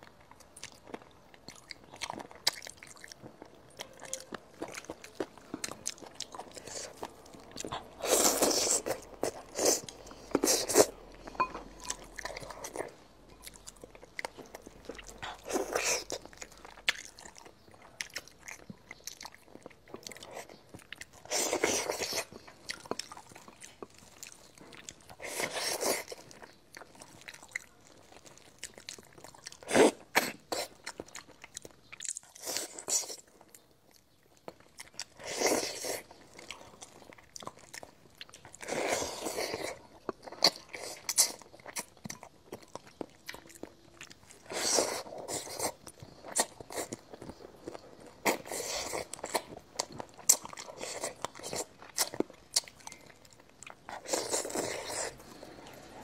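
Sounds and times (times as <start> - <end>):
chewing: 0.0 - 56.0.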